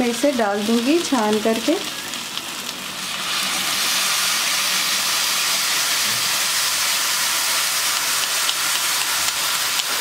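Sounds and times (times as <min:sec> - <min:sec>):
liquid sizzling in hot pan: 0:00.0 - 0:10.0.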